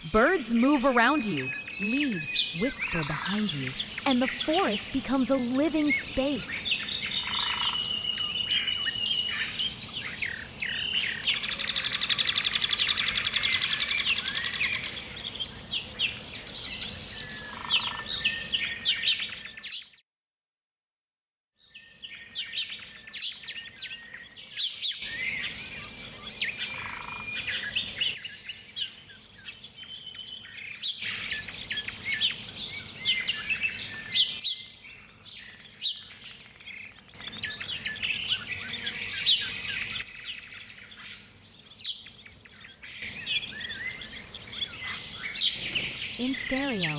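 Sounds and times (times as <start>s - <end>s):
birds chirping and singing: 0.0s - 19.5s, 22.3s - 46.9s.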